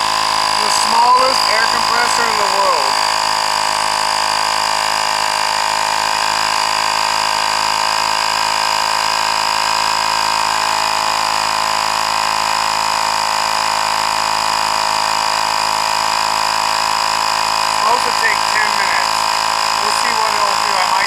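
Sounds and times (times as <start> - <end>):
air compressor whining: 0.0 - 21.0.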